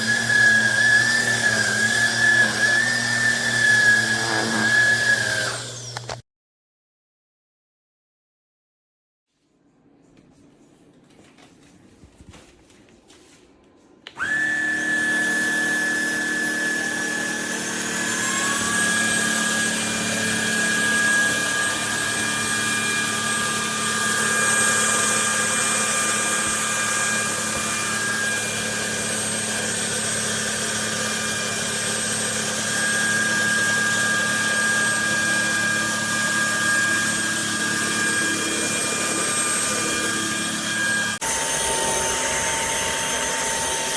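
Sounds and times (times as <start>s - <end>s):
vacuum cleaner motor whining: 0.0s - 6.2s, 14.0s - 43.9s.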